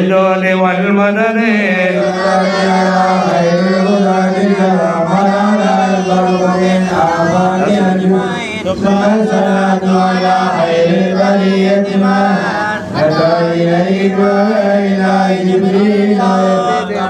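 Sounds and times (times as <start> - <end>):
men chanting amplified: 0.0 - 17.0.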